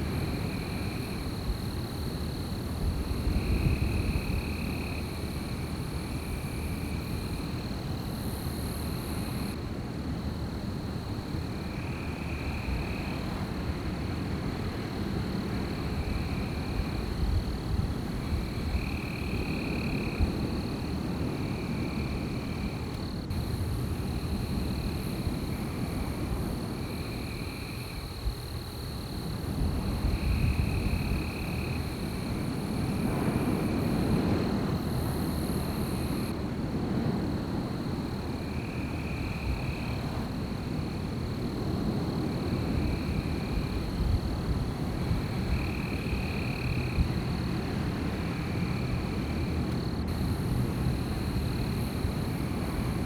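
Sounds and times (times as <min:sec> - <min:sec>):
wind low rumble: 0:10.2 - 0:53.0.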